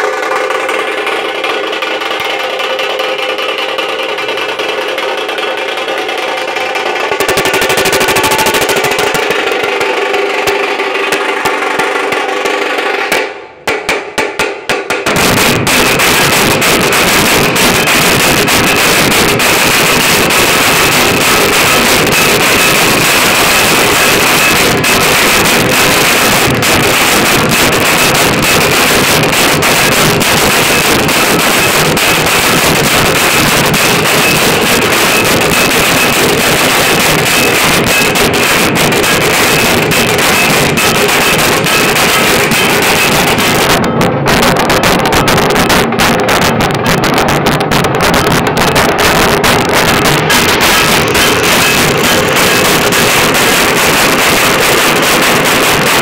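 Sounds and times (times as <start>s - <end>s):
dhol drums beaten with sticks: 0.0s - 56.0s
steady pitched sound: 0.0s - 56.0s.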